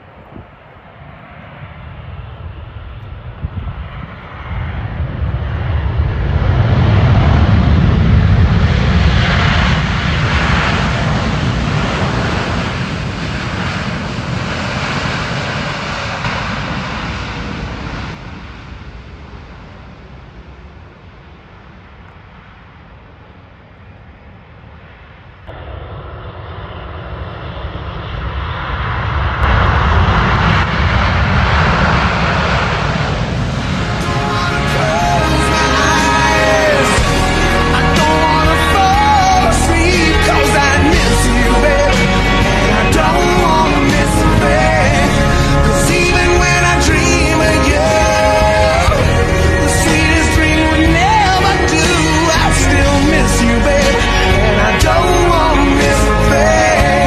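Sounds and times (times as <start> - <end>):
airliner engines passing: 0.0 - 57.0.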